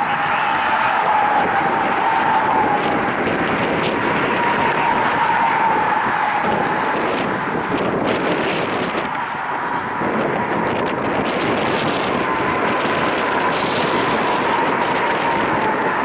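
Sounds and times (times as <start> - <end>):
freight train rumbling: 0.0 - 16.0
high wheel squeal: 0.0 - 16.0.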